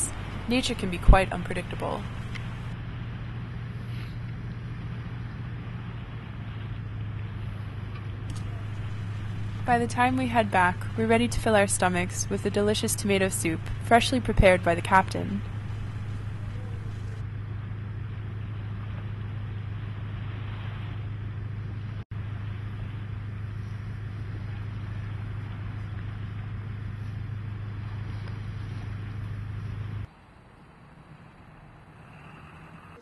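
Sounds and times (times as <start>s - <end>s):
boat engine drone: 0.0s - 33.0s.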